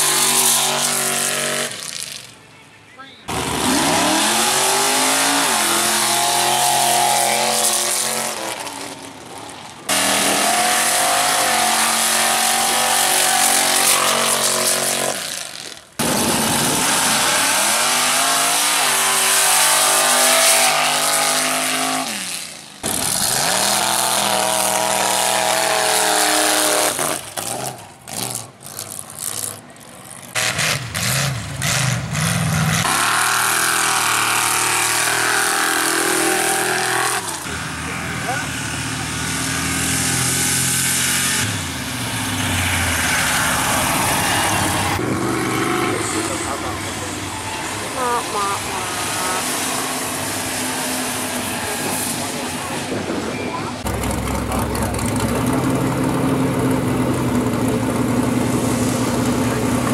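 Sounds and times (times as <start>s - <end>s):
truck engines at full throttle: 0.0s - 59.9s.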